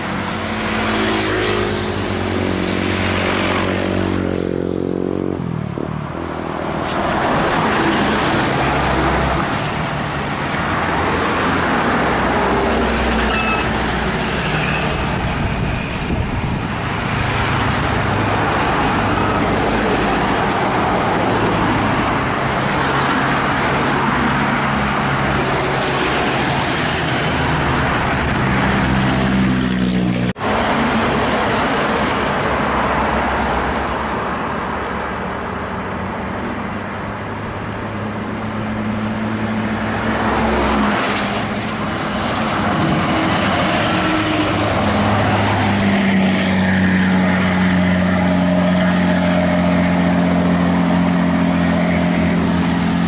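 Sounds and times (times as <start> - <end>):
buses and trucks driving past: 0.0 - 53.0.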